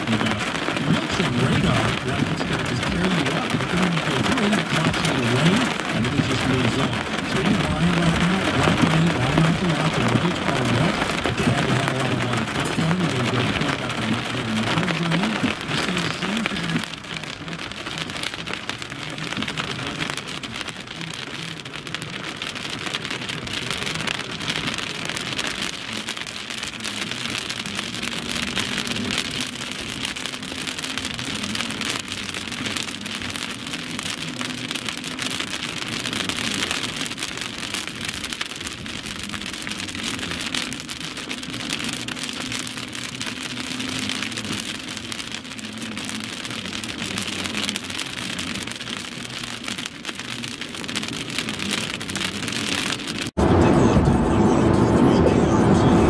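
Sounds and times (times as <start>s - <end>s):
heavy rain on car windshield: 0.0s - 56.0s.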